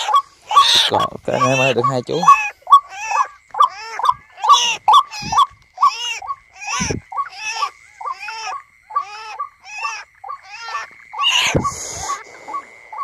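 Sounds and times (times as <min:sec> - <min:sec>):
bird squawking: 0:00.0 - 0:13.0.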